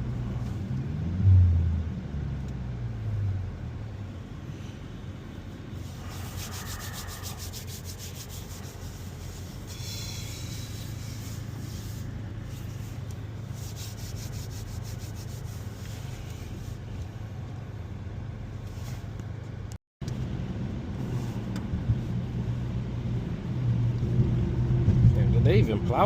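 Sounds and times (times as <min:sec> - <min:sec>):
engine and road hum: 0:00.0 - 0:26.0.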